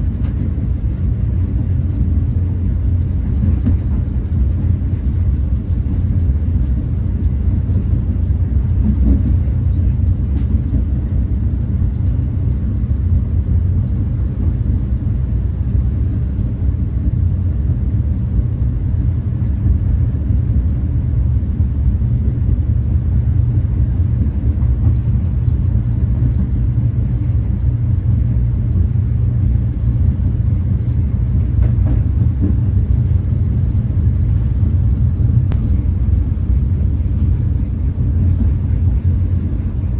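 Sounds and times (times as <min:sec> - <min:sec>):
train rumble inside coach: 0:00.0 - 0:39.9.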